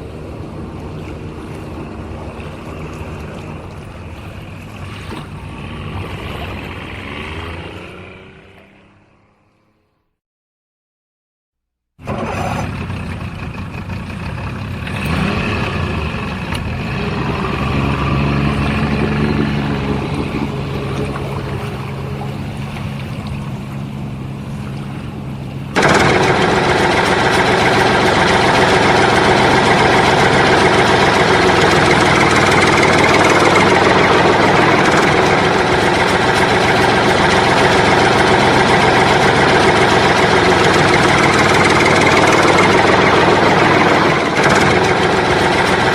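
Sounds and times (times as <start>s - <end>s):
heavy vehicle engine running: 0.0s - 9.5s, 12.0s - 45.9s.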